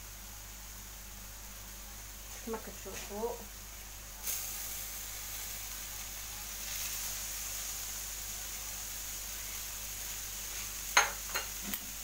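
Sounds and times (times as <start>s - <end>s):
onion sizzling in a frying pan: 0.0s - 12.0s.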